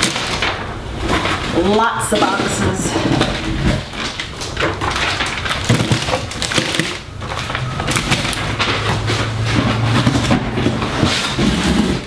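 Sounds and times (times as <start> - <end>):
packaging and cardboard rustling: 0.0 - 12.0.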